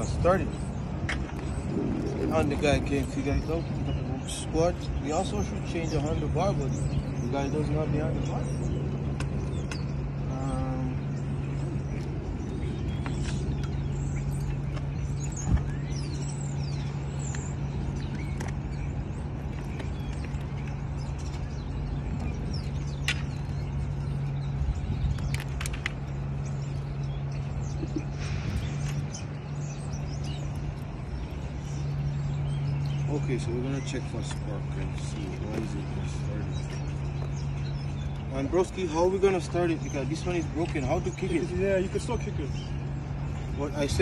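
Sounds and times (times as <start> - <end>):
birds chirping faintly: 0.0 - 44.0
low mechanical hum: 0.0 - 44.0.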